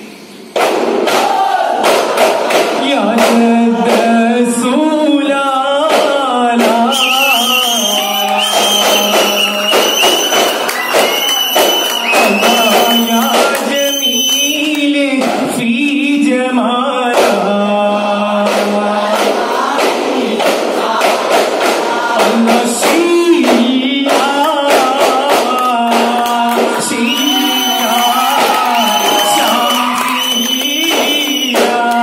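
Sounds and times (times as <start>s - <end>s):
frame drums beating: 0.6s - 4.6s, 5.8s - 14.0s, 17.1s - 32.0s
boys singing in chorus: 1.1s - 32.0s.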